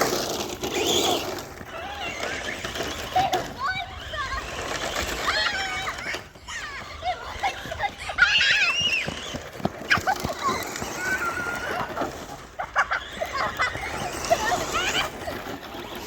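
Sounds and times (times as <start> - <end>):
child squealing and shouting: 1.7 - 12.0, 12.6 - 15.3.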